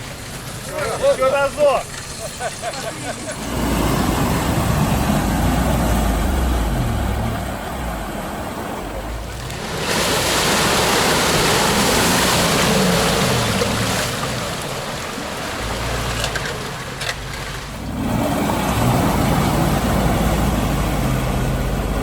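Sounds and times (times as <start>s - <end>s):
tyres churning through mud: 0.0s - 22.0s
vehicle engine revving: 3.1s - 22.0s.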